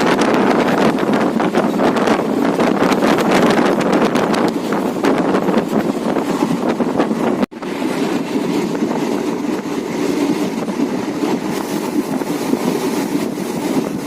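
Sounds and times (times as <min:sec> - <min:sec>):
rushing noise: 0:00.0 - 0:14.0
train wheels rumbling on rails: 0:00.0 - 0:14.0.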